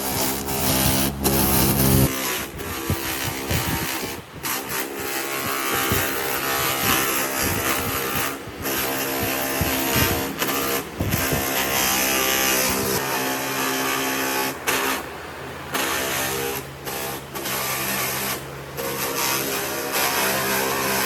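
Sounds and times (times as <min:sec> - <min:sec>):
electric power tool grinding: 0:00.0 - 0:21.0.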